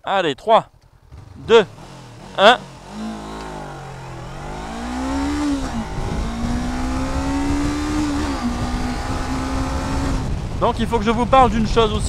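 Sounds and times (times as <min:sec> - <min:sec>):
motorcycle engine at full throttle: 0:00.7 - 0:12.0.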